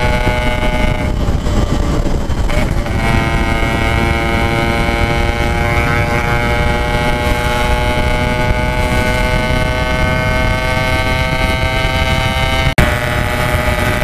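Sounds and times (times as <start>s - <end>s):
two-stroke motorcycle engine revving: 0.0s - 14.0s
wind rumble on microphone: 0.0s - 14.0s.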